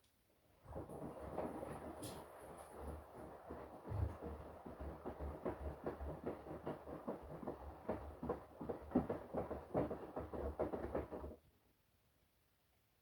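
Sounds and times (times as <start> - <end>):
laundry tumbling in drum: 0.7 - 11.4.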